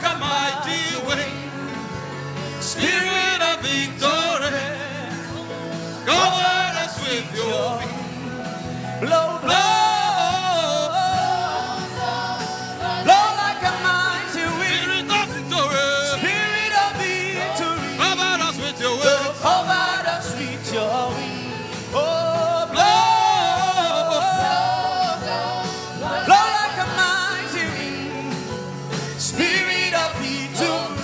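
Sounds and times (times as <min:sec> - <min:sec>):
sustained instrumental backing: 0:00.0 - 0:31.0.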